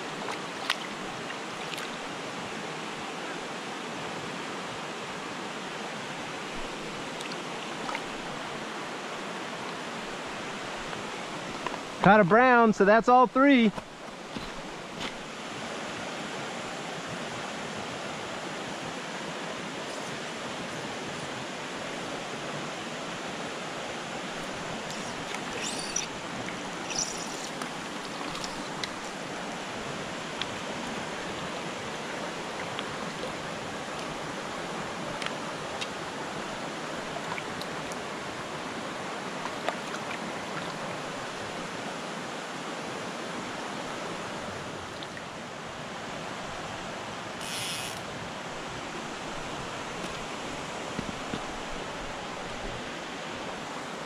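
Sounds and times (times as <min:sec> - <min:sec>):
creek running over rocks: 0:00.0 - 0:54.0.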